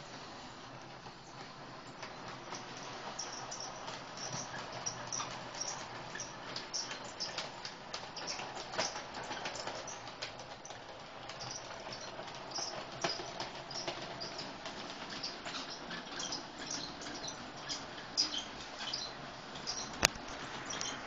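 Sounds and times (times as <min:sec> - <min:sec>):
model locomotive running hum: 0:00.0 - 0:21.0
wheels clicking over rail joints: 0:00.1 - 0:21.0.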